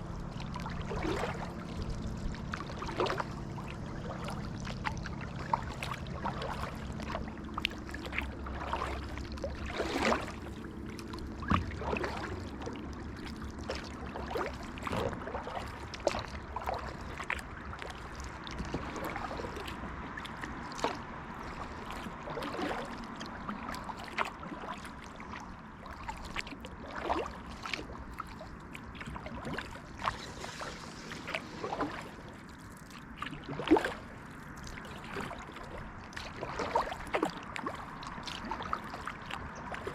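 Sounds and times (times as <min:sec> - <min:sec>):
low steady hum: 0:00.0 - 0:39.9
paddle splashing water: 0:00.0 - 0:39.9
water dripping off paddle: 0:00.2 - 0:39.9.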